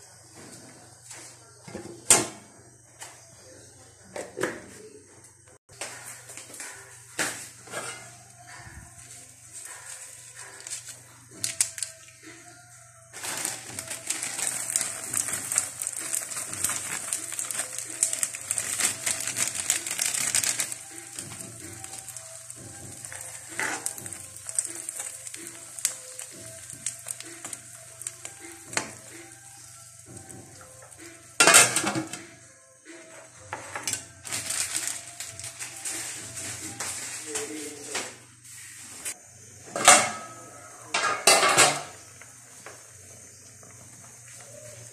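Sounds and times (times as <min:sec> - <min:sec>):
crackling hiss in a pan: 0:05.8 - 0:44.9.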